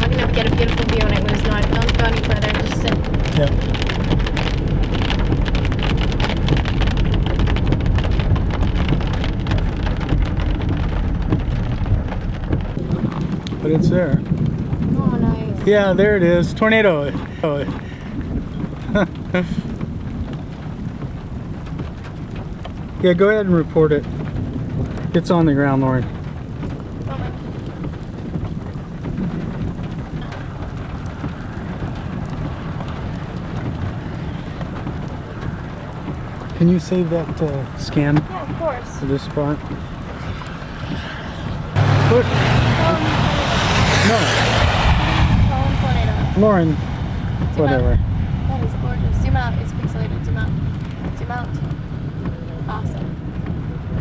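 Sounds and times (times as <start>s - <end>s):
car rumbling on a wet road: 0.0s - 54.0s
heavy rain on a car roof: 0.0s - 54.0s.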